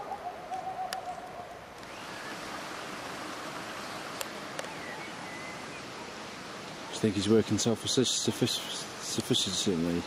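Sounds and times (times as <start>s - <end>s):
running water rushing: 1.2s - 10.0s.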